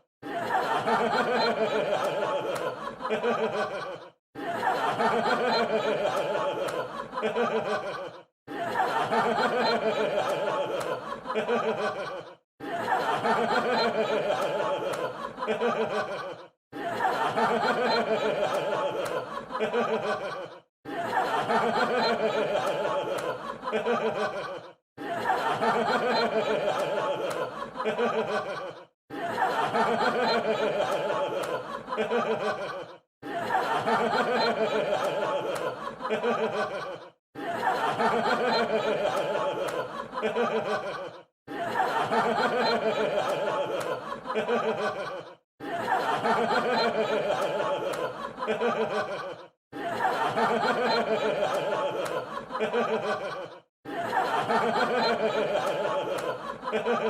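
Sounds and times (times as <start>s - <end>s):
crowd laughing: 0.0s - 57.0s.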